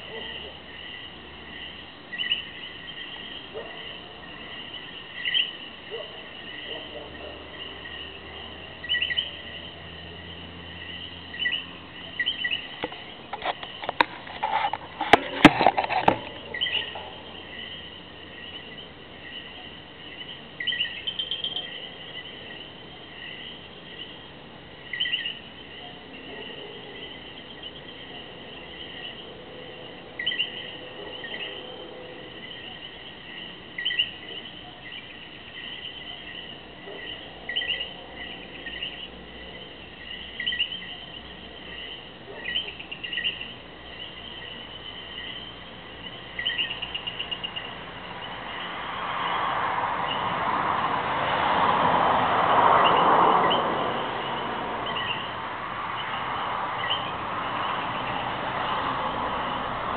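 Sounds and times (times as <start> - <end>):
chorus of frogs and insects: 0.0 - 59.9.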